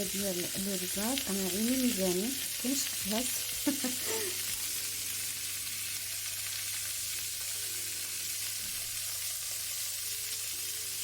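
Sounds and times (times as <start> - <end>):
beans sizzling in a pan: 0.0 - 11.0.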